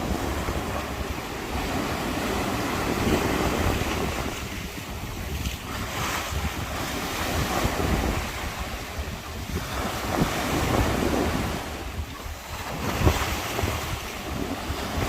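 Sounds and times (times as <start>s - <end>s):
sea water rushing: 0.0s - 15.0s
wind buffeting microphone: 0.0s - 15.0s.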